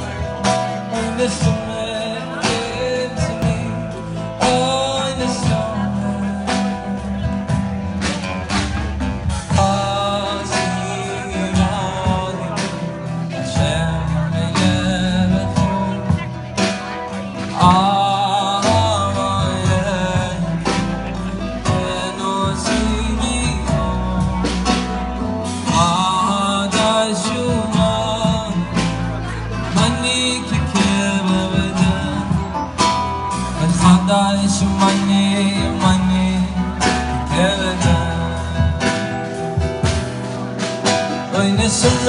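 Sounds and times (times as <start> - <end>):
acoustic guitar: 0.0 - 42.0
drums: 0.0 - 42.0
electric guitar: 0.0 - 42.0
keyboard: 0.0 - 42.0
man singing: 0.0 - 42.0.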